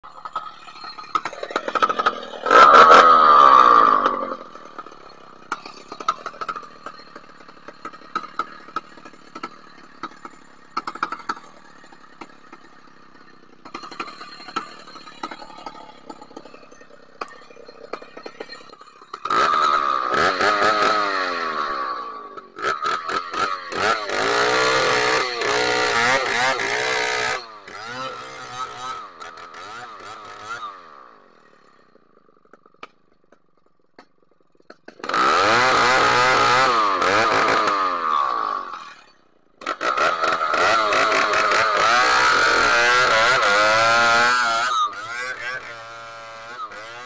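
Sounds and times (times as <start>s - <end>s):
chainsaw revving and idling: 0.0s - 47.0s.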